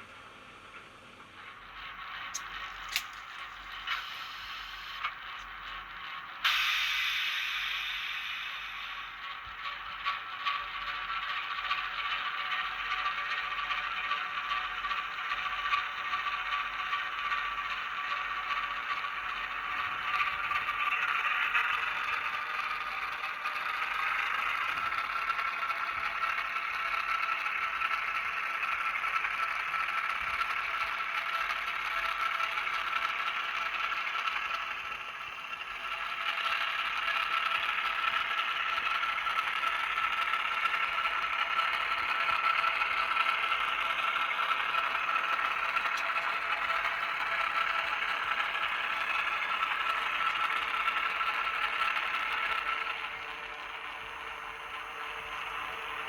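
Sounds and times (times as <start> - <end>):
model train wheels clattering: 1.4 - 56.0.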